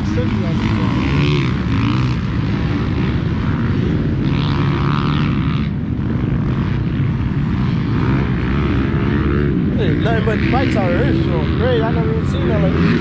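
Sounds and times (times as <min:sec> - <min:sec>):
dirt bike engines droning: 0:00.0 - 0:13.0.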